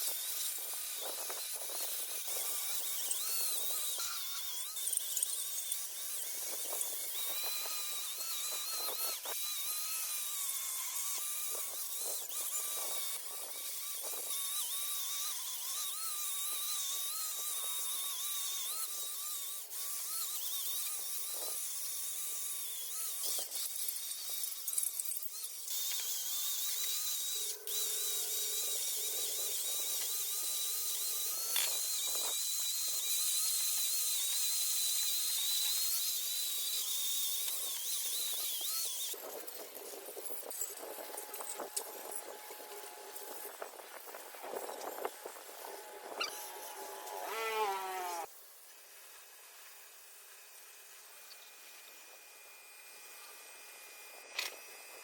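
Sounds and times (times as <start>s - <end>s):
high-speed power tool whining: 0.0s - 48.3s, 50.0s - 55.0s.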